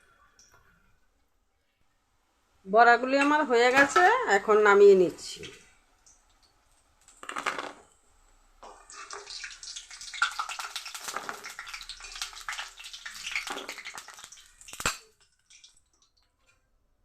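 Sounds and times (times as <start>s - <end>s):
oil sizzling and crackling: 3.0s - 16.7s.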